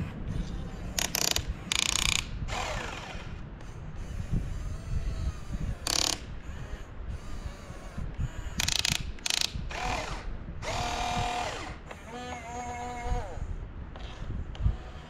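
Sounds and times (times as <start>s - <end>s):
toy excavator motors whirring: 0.0s - 15.0s.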